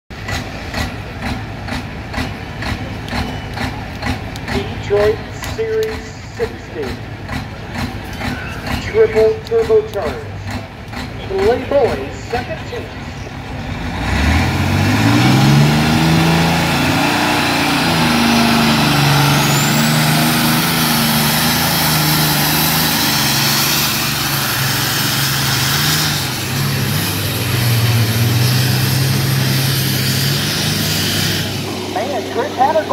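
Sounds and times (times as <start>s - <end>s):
diesel tractor engine under load: 0.1s - 32.9s.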